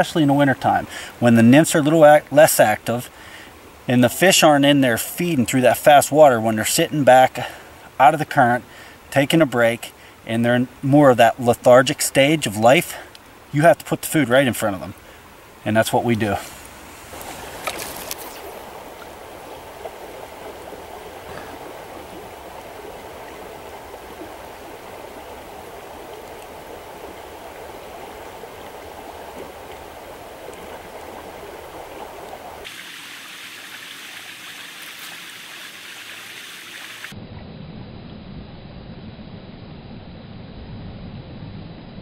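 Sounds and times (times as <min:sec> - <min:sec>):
stream water rushing: 0:00.0 - 0:37.2.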